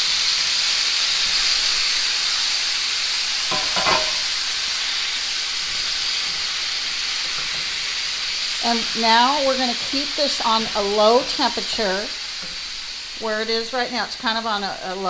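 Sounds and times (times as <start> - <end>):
squash sizzling in oil: 0.0 - 15.0.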